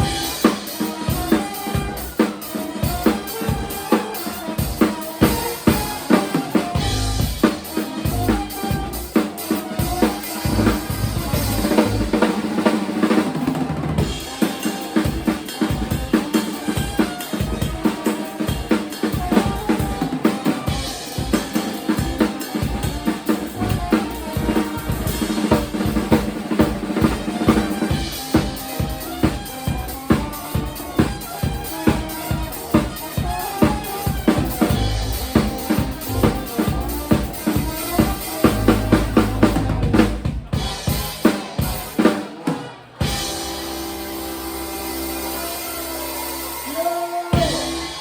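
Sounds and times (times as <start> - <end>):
drum kit hits: 0.0 - 43.7
live band playing: 0.0 - 48.0.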